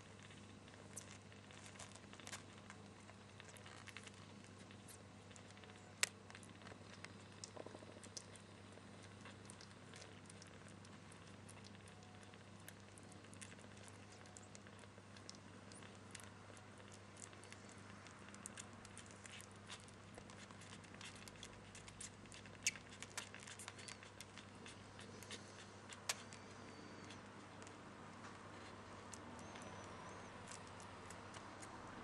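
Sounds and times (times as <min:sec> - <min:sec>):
low steady hum: 0:00.0 - 0:32.0
kittens suckling clicks: 0:00.1 - 0:32.0.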